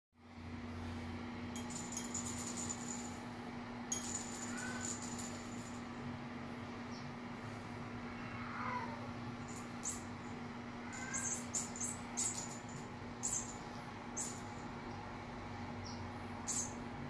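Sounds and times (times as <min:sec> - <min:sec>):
steady low hum: 0:00.2 - 0:17.0.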